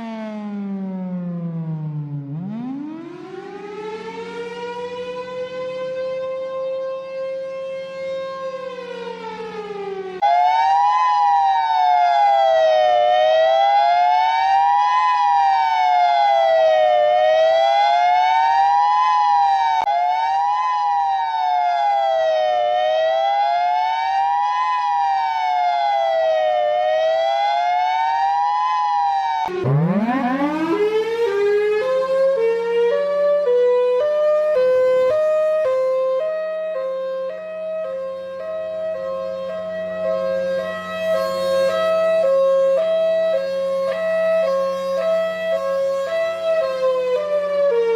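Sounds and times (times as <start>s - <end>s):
siren wailing: 0.0s - 47.9s
two-tone siren sweeping: 0.0s - 47.9s.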